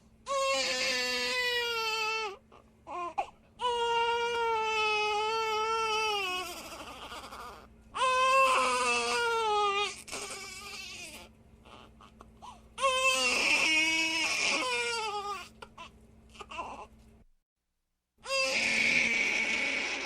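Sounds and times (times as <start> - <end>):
infant crying: 0.3 - 16.9, 18.2 - 20.0.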